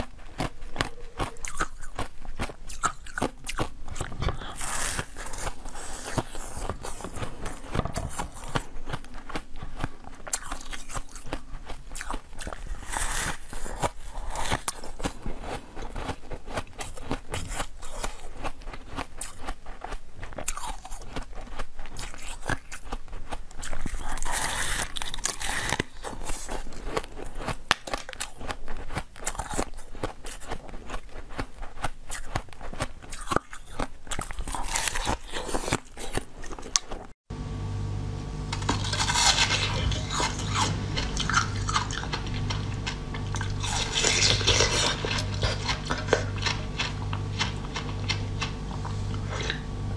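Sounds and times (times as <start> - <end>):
biting and crunching ice: 0.0 - 37.1, 38.6 - 49.6
chewing: 0.0 - 37.2, 38.5 - 49.7.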